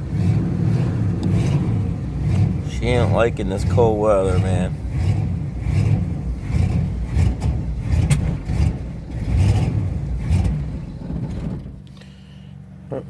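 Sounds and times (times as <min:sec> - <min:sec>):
car engine running rough: 0:00.0 - 0:13.0.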